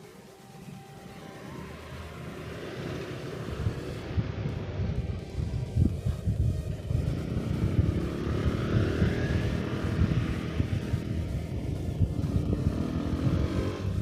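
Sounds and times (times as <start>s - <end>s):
jet engines rumbling and whining: 0.0s - 14.0s.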